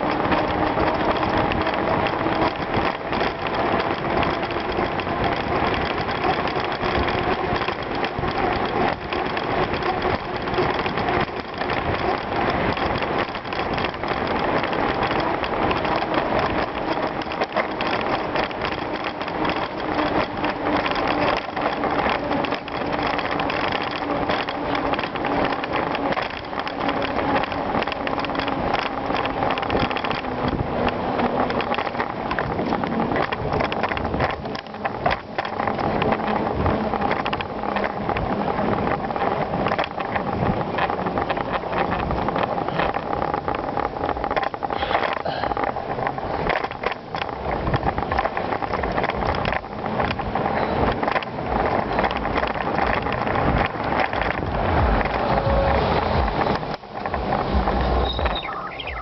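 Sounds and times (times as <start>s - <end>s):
bicycle tyres crunching on gravel: 0.0s - 59.0s.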